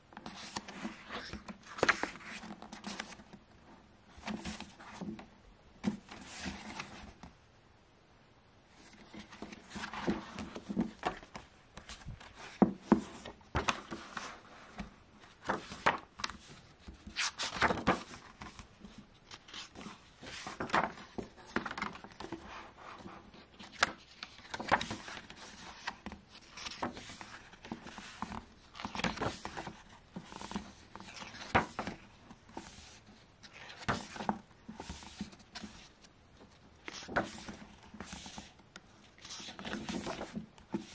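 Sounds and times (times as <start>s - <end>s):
book pages rustling: 0.2s - 7.4s, 8.7s - 40.9s.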